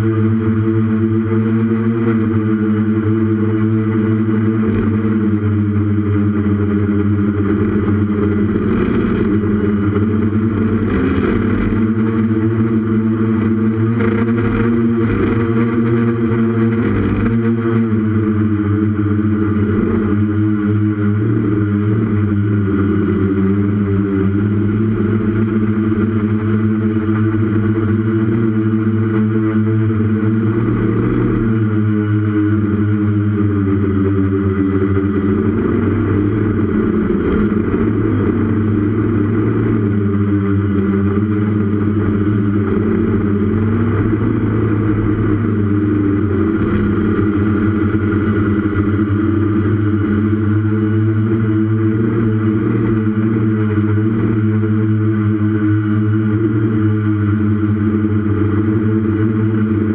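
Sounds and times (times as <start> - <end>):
drone motors buzzing in flight: 0.0 - 59.9.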